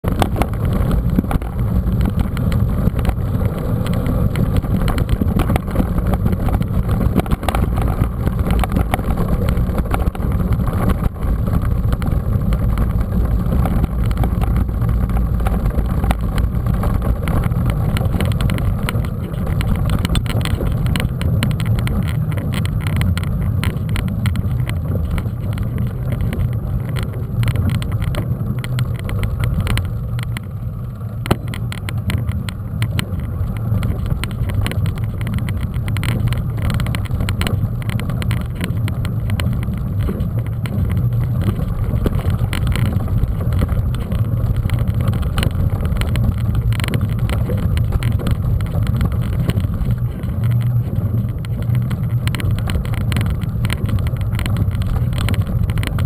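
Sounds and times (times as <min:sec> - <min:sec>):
bike rattling over rough ground: 0:00.0 - 0:56.0
wind buffeting microphone: 0:00.0 - 0:56.0.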